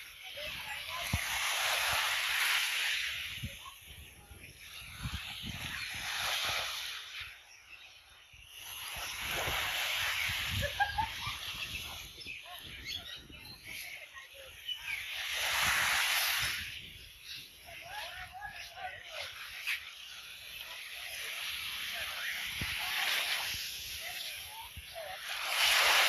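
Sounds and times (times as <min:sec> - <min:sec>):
faint bird chirps: 0:00.0 - 0:26.0
waves washing on sandy shore: 0:00.0 - 0:26.0.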